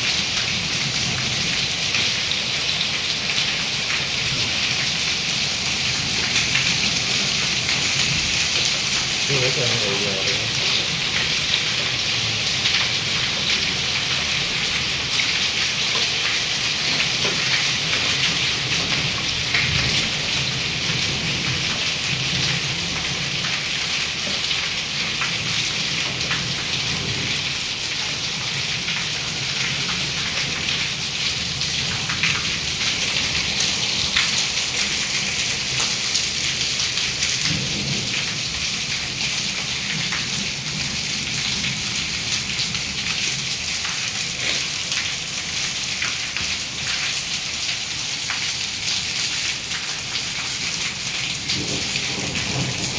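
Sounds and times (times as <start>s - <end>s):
heavy rain and hail falling: 0.0s - 52.9s.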